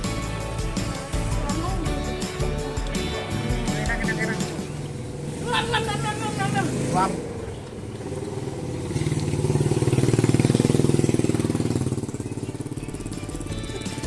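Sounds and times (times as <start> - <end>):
vehicle engine passing by: 0.8 - 14.0.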